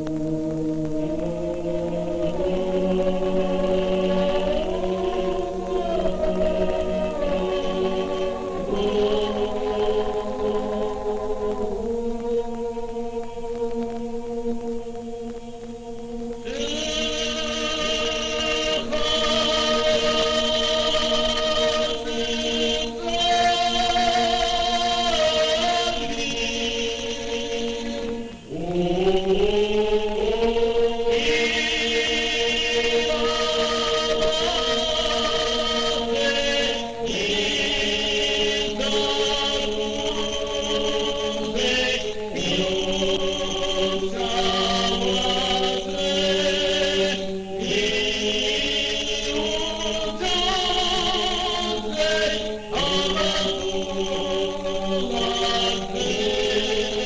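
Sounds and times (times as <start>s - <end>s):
choir singing polyphonic chant: 0.0s - 57.0s
held vocal drone: 0.0s - 57.0s.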